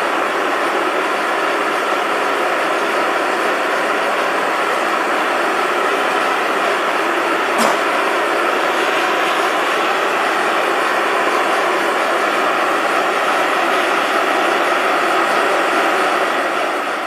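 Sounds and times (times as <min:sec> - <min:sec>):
propane burner roaring: 0:00.0 - 0:17.0.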